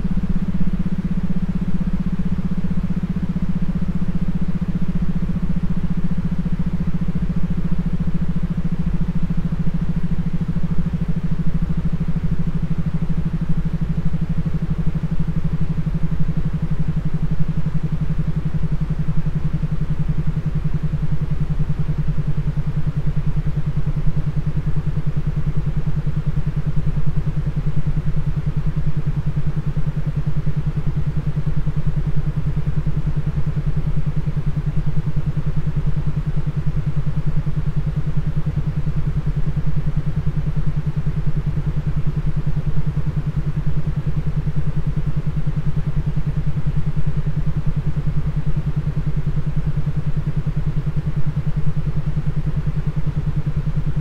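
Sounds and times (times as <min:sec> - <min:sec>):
pulsing low droning tone: 0:00.0 - 0:54.0.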